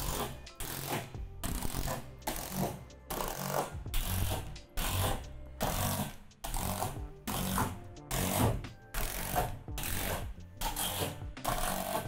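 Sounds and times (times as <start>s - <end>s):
cordless drill driving screws: 0.0s - 12.0s.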